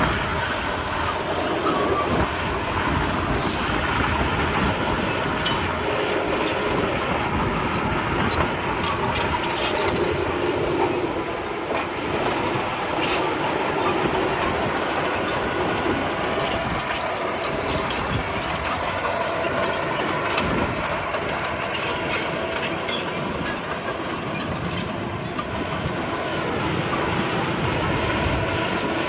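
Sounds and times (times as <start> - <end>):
bulldozer diesel engine running: 0.0 - 29.0
steel tracks clattering and squeaking: 0.0 - 29.0.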